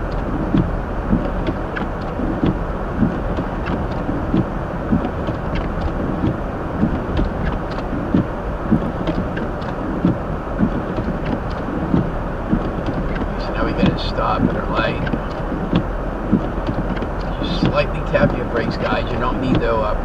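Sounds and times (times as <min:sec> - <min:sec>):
road rumble inside car: 0:00.0 - 0:20.0
short irregular knocks and ticks: 0:00.0 - 0:20.0.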